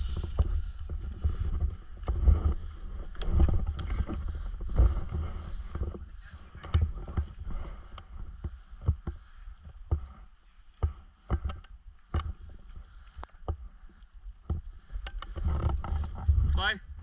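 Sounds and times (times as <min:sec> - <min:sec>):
microphone handling rumble: 0:00.0 - 0:13.7, 0:14.4 - 0:17.0.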